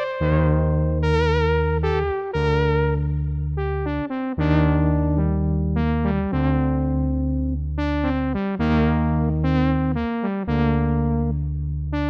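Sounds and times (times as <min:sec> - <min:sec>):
synth brass chords: 0:00.0 - 0:12.0.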